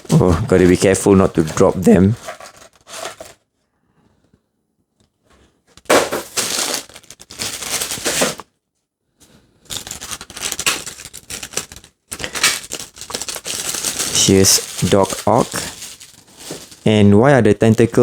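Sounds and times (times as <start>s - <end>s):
paper packaging crinkling and tearing: 0.0s - 3.4s, 5.8s - 8.5s, 9.6s - 18.0s.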